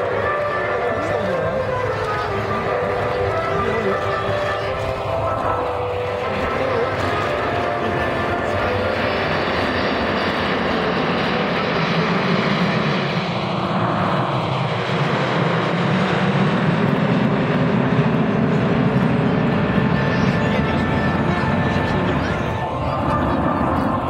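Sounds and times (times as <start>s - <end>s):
jet aircraft flying overhead: 0.0s - 24.0s.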